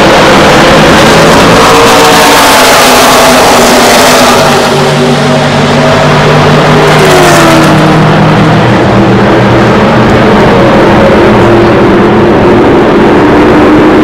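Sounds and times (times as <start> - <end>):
race cars passing at full throttle: 0.0 - 14.0.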